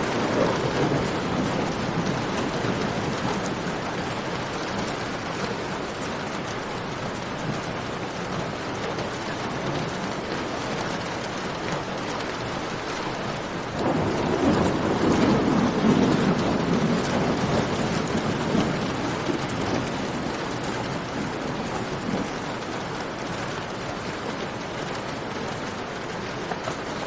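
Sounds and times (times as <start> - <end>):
low roll of thunder: 0.0 - 7.7, 11.8 - 27.0
steady rain: 0.0 - 27.0.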